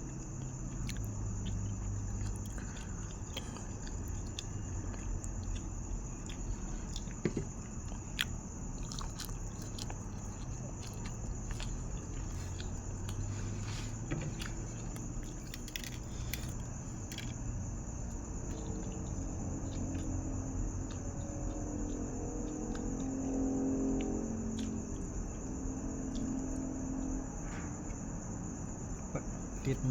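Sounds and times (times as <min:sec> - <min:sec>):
person chewing food: 0:00.0 - 0:27.2
steady low hum: 0:00.0 - 0:29.9.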